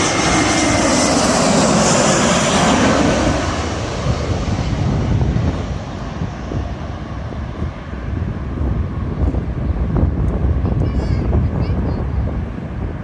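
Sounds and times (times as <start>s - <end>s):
jet airliner passing overhead: 0.0s - 13.0s
wind buffeting microphone: 0.0s - 13.0s.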